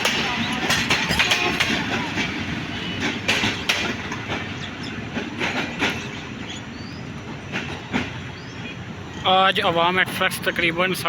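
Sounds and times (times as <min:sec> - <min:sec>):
train wheels rumbling on track: 0:00.0 - 0:11.0
wheels clacking over rail joints: 0:00.0 - 0:11.0.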